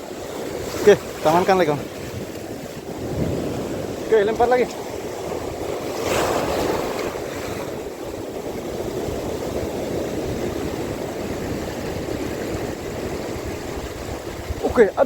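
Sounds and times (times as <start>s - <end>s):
moving sea water: 0.0s - 15.0s
wind noise on microphone: 0.0s - 15.0s.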